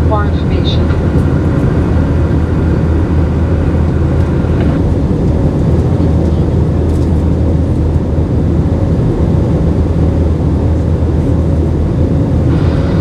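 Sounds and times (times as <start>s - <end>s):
air rushing over fuselage: 0.0s - 13.0s
jet engines droning: 0.0s - 13.0s.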